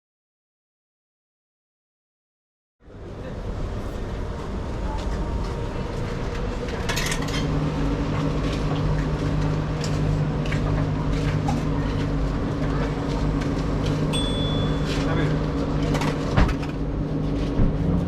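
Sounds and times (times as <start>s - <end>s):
car engine and road noise: 2.9s - 18.0s.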